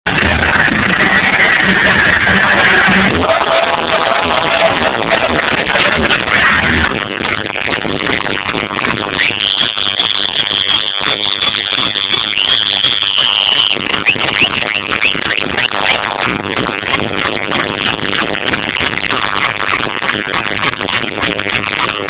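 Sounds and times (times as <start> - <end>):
loud crowd: 0.1 - 22.0.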